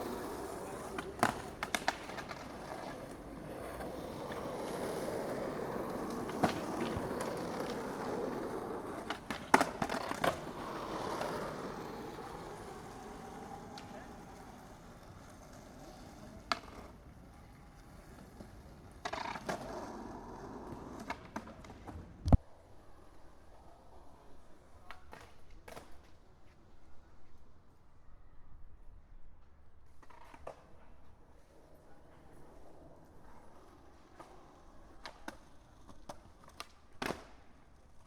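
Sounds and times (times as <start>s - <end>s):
skateboard clacking on ground: 0.0s - 22.4s, 24.4s - 26.2s, 29.9s - 38.0s
skateboard wheels rolling: 0.0s - 27.9s, 29.4s - 38.0s.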